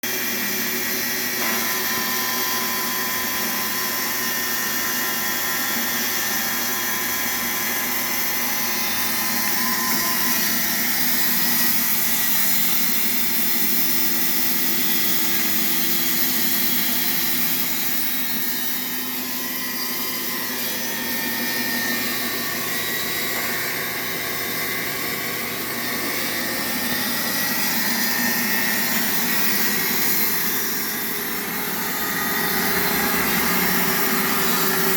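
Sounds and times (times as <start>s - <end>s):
band sawmill cutting log: 0.1s - 34.9s.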